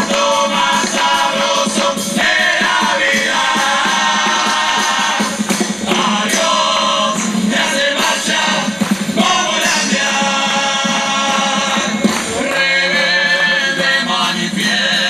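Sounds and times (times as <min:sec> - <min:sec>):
drums and cymbals: 0:00.0 - 0:15.0
male chorus singing: 0:00.0 - 0:15.0.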